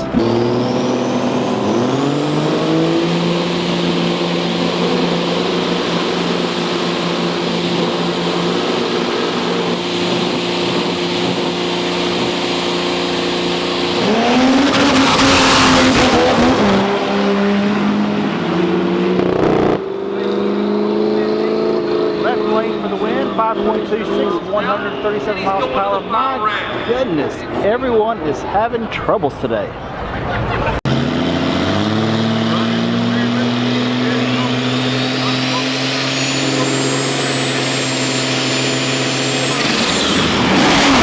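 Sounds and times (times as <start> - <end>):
dragster engines roaring: 0.0 - 41.0.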